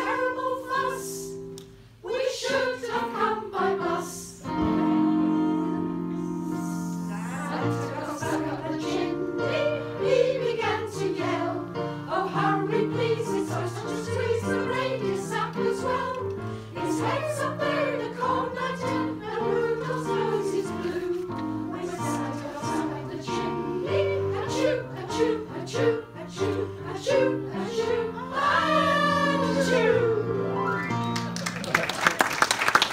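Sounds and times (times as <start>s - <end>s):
women's choir singing: 0.0s - 30.6s.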